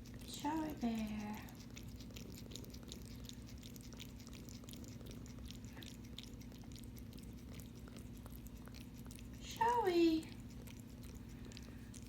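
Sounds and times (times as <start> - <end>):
cat chewing and crunching: 0.0 - 12.0.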